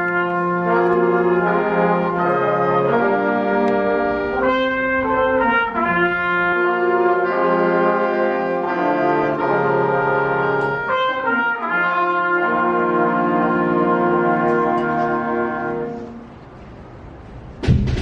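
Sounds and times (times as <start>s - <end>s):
concert band playing chords: 0.0s - 16.2s.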